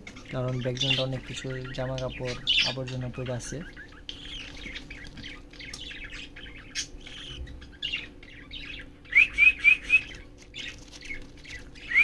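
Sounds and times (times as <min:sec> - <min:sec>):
budgerigars chirping: 0:00.0 - 0:12.0
faint steady hum: 0:00.0 - 0:12.0.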